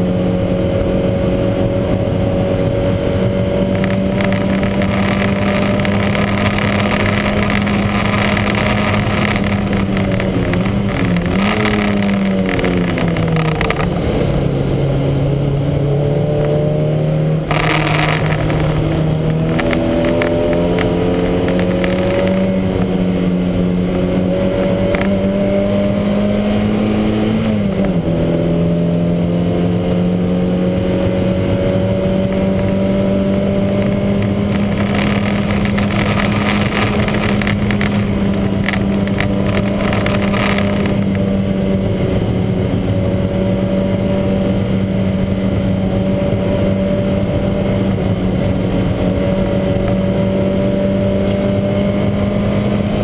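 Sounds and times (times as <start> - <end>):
misfiring car engine at high revs: 0.0 - 53.0.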